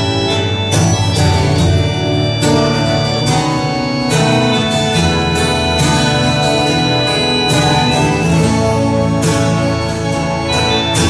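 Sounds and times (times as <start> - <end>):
acoustic guitar strumming chords: 0.0 - 11.0
keyboard accompaniment: 0.0 - 11.0.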